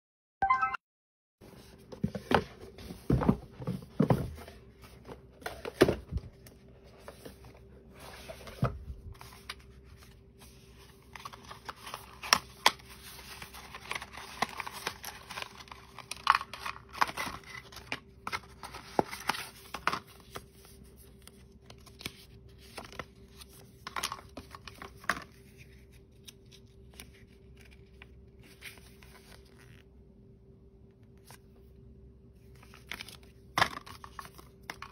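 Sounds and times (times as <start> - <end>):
faint steady hum: 1.4 - 34.9
paper rustling and crinkling: 1.6 - 29.8.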